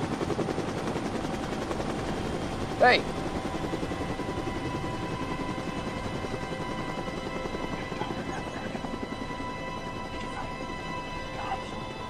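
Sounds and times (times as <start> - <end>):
engine drone: 0.0 - 12.0
helicopter rotor beating: 0.0 - 12.0.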